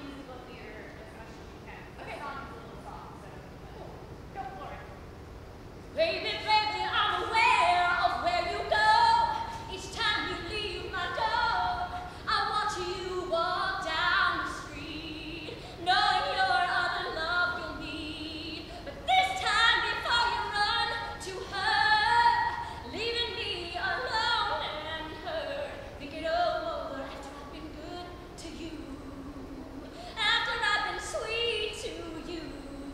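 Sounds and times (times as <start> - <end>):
woman singing pop song: 6.0 - 32.9.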